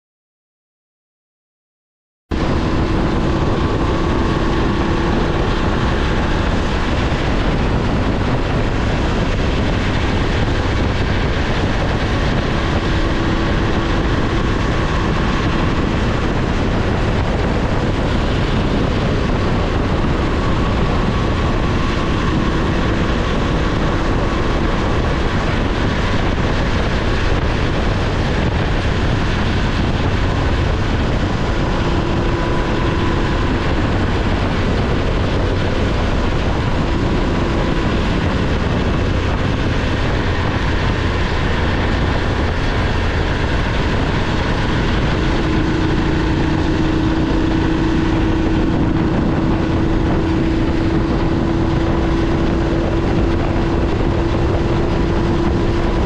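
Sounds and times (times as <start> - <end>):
motorcycle engine cruising: 2.3 - 56.0
wind and road noise: 2.3 - 56.0.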